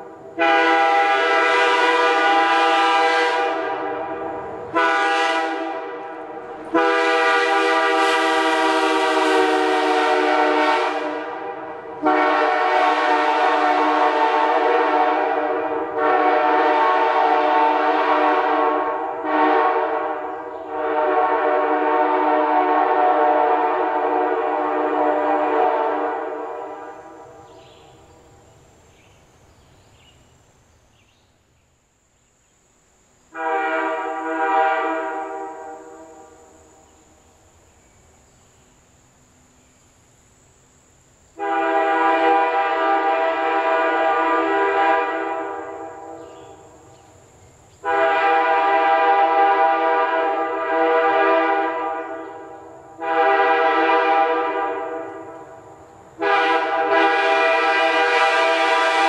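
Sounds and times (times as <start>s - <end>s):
train air horn blasts: 0.0s - 27.7s, 33.3s - 36.8s, 40.8s - 46.9s, 47.8s - 59.0s.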